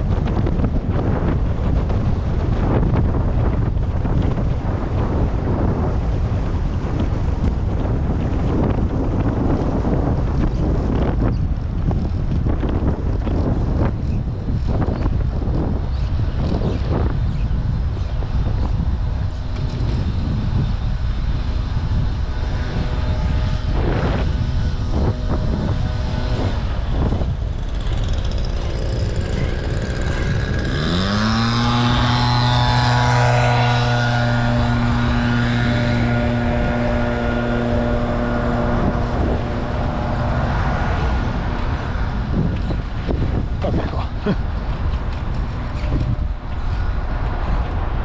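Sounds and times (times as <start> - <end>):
loud low mechanical drone: 0.0 - 48.0
wind buffeting microphone: 0.0 - 48.0.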